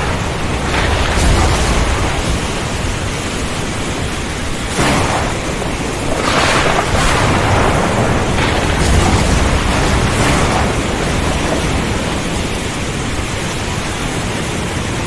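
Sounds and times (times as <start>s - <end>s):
low rumble: 0.0s - 13.6s
heavy rain roaring: 0.0s - 15.0s
wind: 0.0s - 15.0s.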